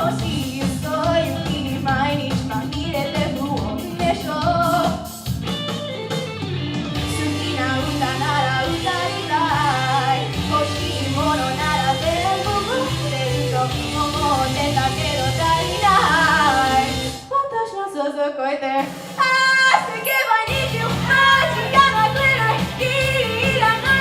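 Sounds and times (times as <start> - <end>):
pop song with singing: 0.0 - 24.0.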